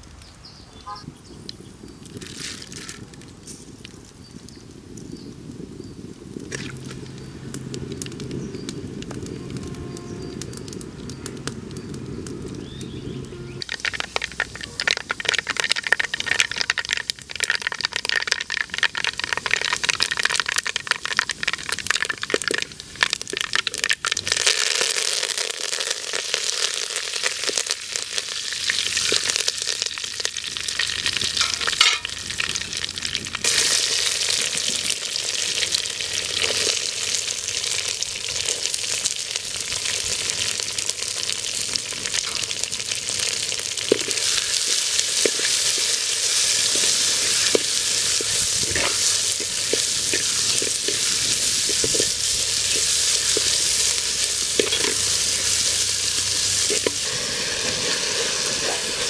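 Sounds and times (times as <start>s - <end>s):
seeds crackling in hot oil: 0.0s - 59.0s
oil sizzling: 3.5s - 59.0s.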